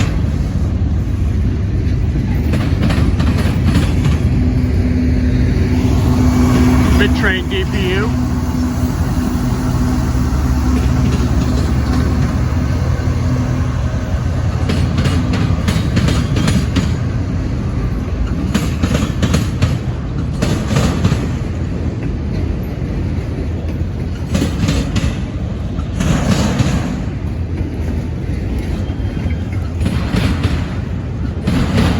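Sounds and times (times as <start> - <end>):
diesel locomotive engine hum: 0.0 - 31.9
freight cars clattering wheels: 0.0 - 31.9.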